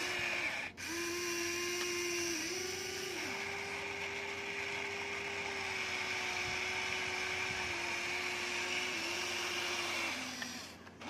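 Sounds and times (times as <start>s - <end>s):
toy excavator motors whining: 0.0s - 11.0s.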